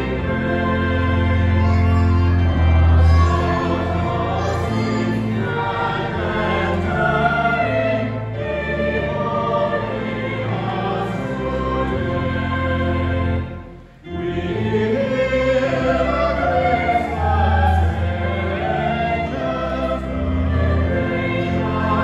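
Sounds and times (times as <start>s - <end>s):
choir singing held notes: 0.0s - 22.0s.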